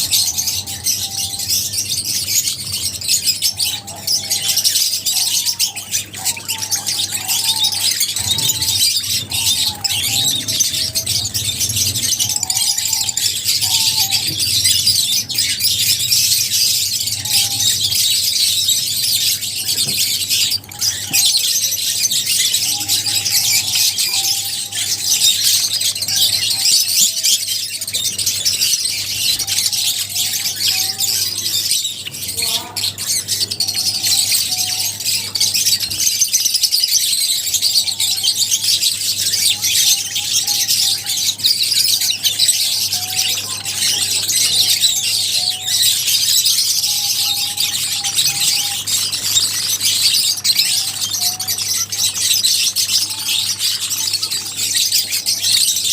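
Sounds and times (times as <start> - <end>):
lovebirds chirping and squealing: 0.0 - 55.9.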